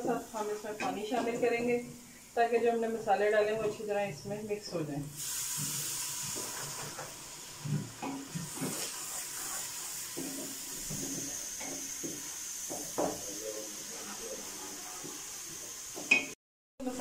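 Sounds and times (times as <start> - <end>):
spices sizzling in oil: 0.0 - 17.0.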